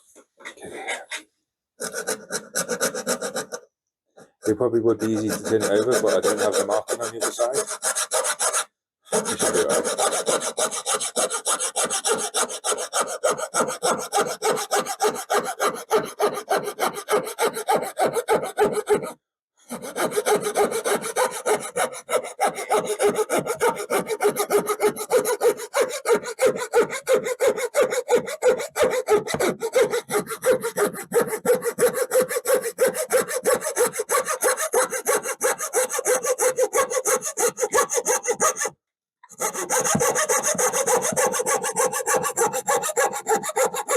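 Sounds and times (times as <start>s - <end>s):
hand saw cutting wood: 1.8s - 3.6s, 4.3s - 43.9s.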